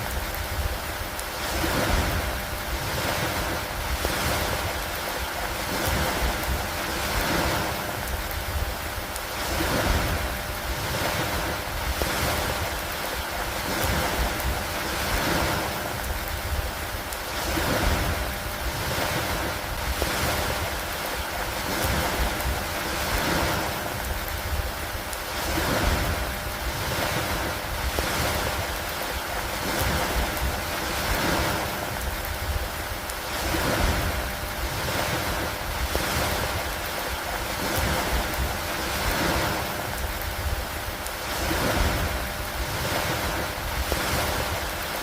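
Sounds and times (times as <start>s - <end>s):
steady rain falling: 0.0s - 45.0s
wind: 0.0s - 45.0s.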